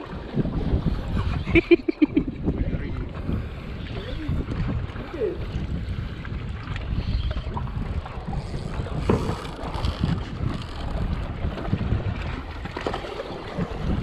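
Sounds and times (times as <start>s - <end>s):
sea washing around boat: 0.0s - 14.0s
wind rumbling on microphone: 0.0s - 14.0s.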